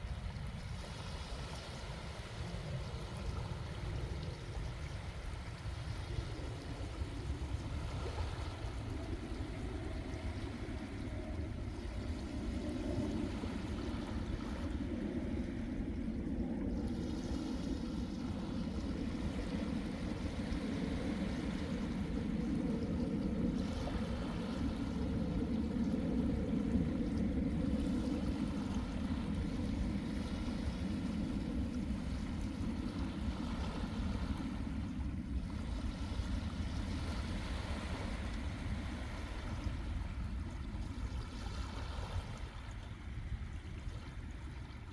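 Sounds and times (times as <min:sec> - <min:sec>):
sea waves washing onto beach: 0:00.0 - 0:44.9.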